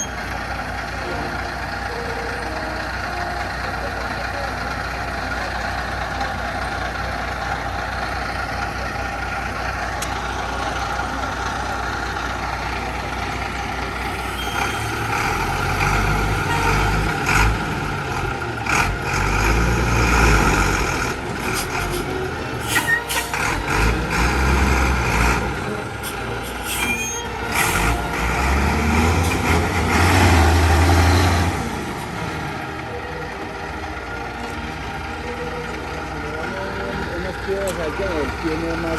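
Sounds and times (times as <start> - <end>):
truck engine idling and revving: 0.0 - 38.9.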